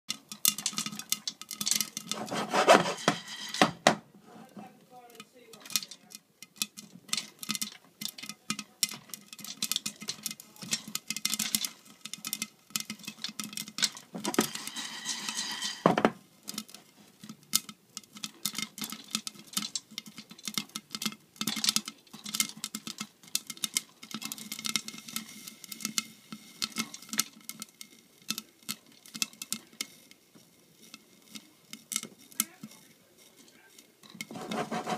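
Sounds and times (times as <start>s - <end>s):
popcorn popping in a pot: 0.1s - 34.9s
pot scraping and rattling: 0.1s - 34.9s.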